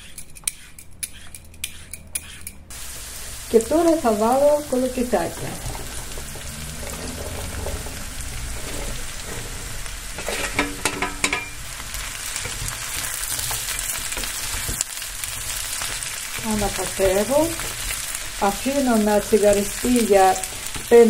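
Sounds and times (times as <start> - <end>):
vegetables sizzling in frying pan: 2.7 - 21.0.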